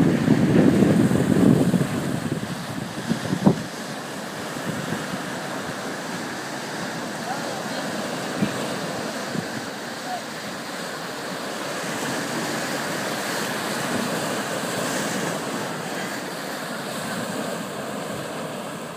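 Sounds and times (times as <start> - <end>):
surf washing up sand: 0.0 - 18.9.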